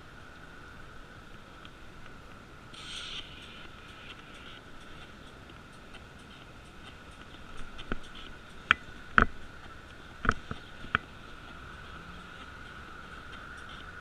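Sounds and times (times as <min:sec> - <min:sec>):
bicycle faint steady ticking: 0:00.0 - 0:14.0.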